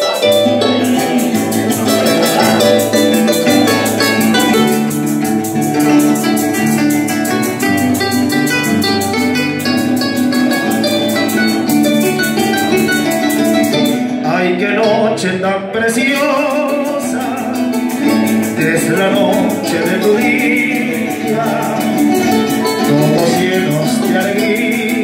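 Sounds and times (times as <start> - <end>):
harp and cuatro plucking: 0.0 - 15.2, 16.1 - 25.0
maraca rhythm: 0.0 - 15.2, 15.9 - 25.0.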